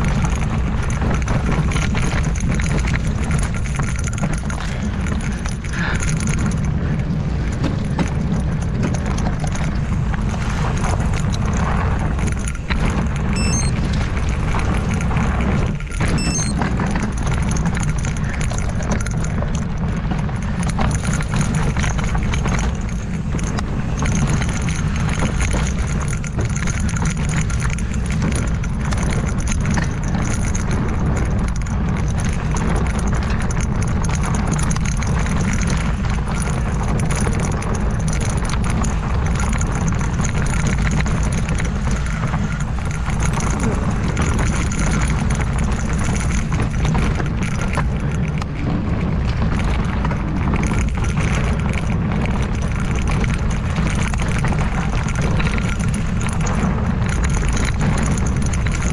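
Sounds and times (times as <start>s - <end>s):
bike tyres clattering on dirt: 0.0s - 58.9s
wind rumbling on microphone: 0.0s - 58.9s.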